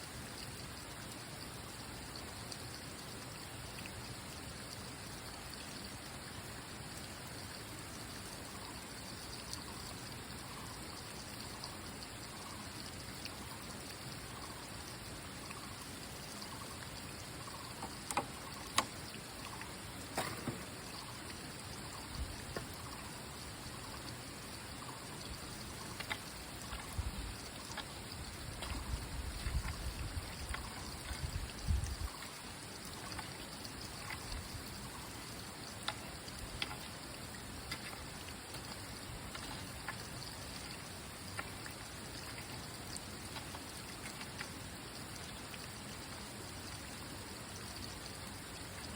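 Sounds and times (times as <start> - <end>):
water trickling: 0.0 - 48.9.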